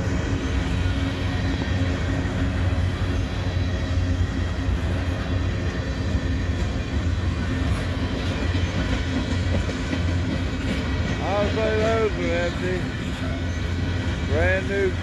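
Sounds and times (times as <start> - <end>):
freight train cars rolling past: 0.0 - 15.0.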